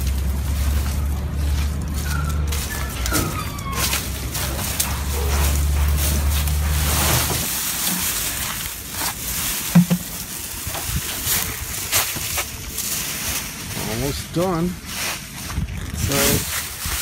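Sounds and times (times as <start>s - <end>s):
dry weeds rustling and crackling: 0.0s - 17.0s
low steady rumble: 0.0s - 17.0s.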